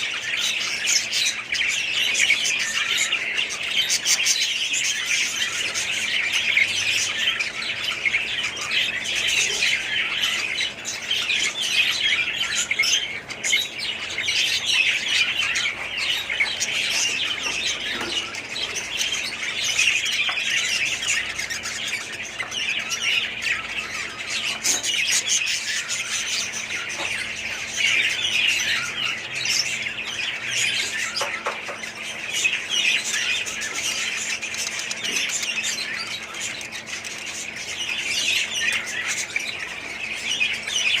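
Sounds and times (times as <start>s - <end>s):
parrots chattering: 0.0s - 41.0s.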